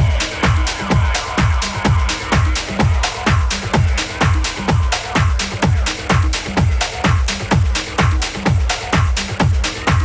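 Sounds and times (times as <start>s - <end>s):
hi-hat strikes: 0.0s - 10.0s
house music: 0.0s - 10.0s
kick drum: 0.0s - 10.0s.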